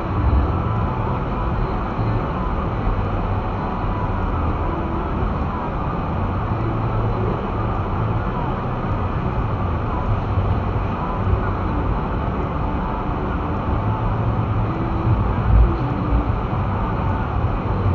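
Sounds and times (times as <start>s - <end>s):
road noise: 0.0s - 17.9s
vehicle engine rumble: 0.0s - 17.9s.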